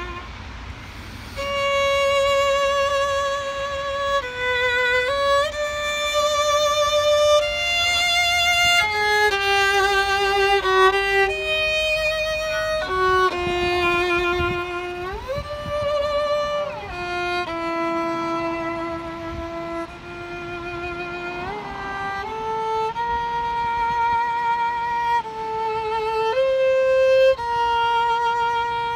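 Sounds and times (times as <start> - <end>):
solo violin melody: 0.0 - 28.9.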